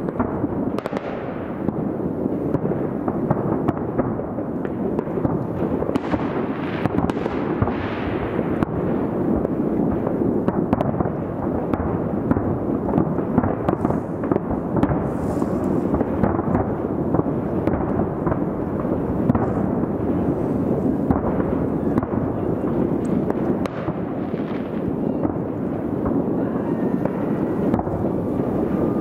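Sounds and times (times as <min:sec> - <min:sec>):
distant firework bangs and crackles: 0:00.0 - 0:29.0
sharp firework pops: 0:00.0 - 0:29.0.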